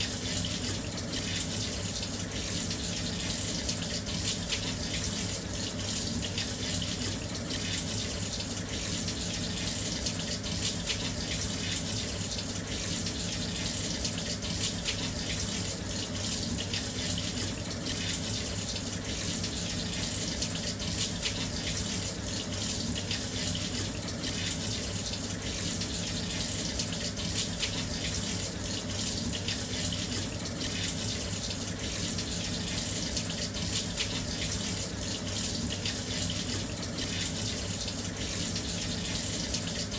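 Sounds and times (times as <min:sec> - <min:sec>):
washing machine filling with water: 0:00.0 - 0:39.9.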